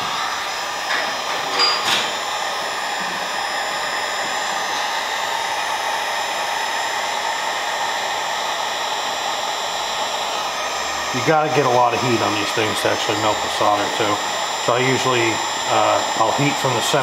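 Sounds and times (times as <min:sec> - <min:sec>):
heat gun blowing hot air: 0:00.0 - 0:17.0.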